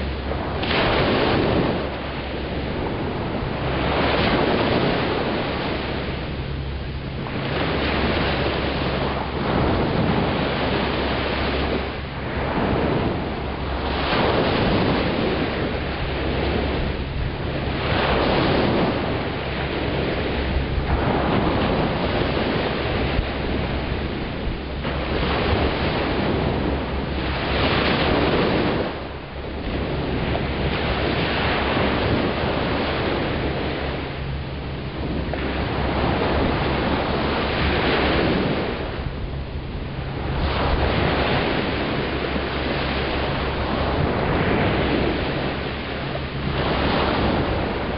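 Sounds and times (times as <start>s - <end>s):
small waves breaking on beach: 0.0s - 47.9s.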